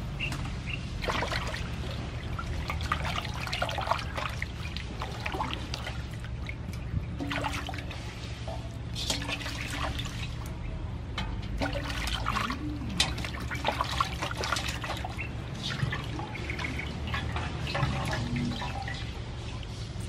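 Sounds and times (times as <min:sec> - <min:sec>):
water sloshing in a steel basin: 0:00.0 - 0:20.0
water running off into basin: 0:01.0 - 0:10.6, 0:11.5 - 0:19.7.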